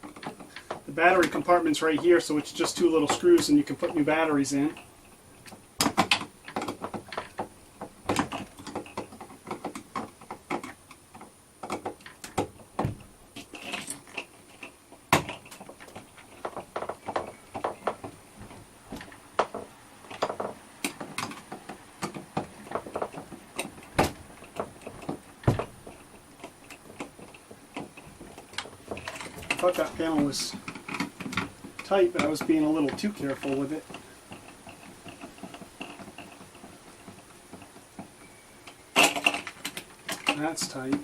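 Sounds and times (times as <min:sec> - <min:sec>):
hands working on door lock: 0:00.0 - 0:41.0.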